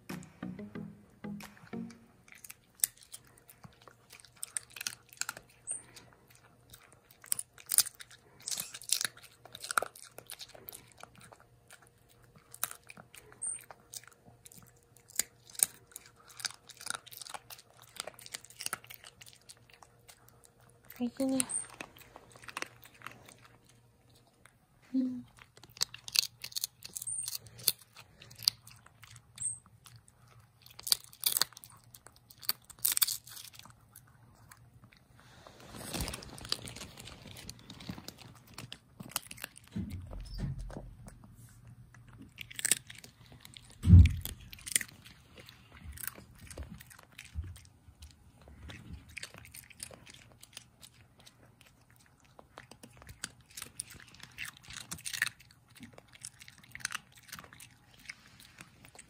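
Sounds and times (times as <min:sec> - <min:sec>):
dog chewing a treat: 0:02.3 - 0:59.0.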